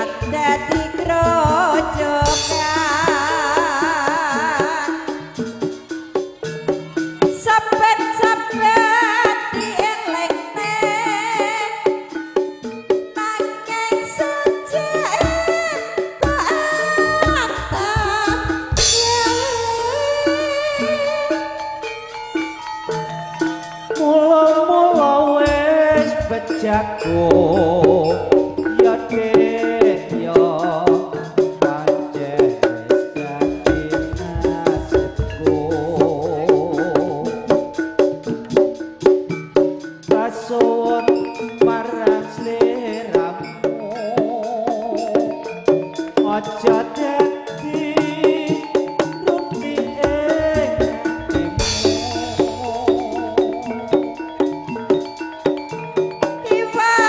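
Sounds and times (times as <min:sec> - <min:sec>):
drum strokes: 0:00.0 - 0:57.0
high wavering melody with vibrato: 0:00.0 - 0:57.0
metallophones: 0:00.0 - 0:57.0
pitched metal percussion melody: 0:00.0 - 0:57.0.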